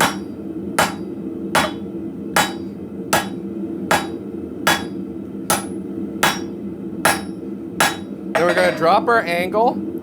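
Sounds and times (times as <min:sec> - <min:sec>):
hammer striking steel on anvil: 0:00.0 - 0:08.9
steady low hum: 0:00.0 - 0:10.0.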